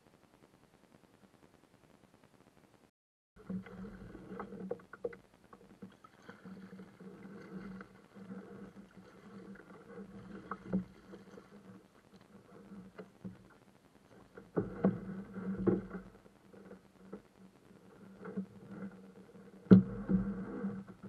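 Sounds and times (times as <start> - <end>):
water lapping on hull: 3.4 - 21.0.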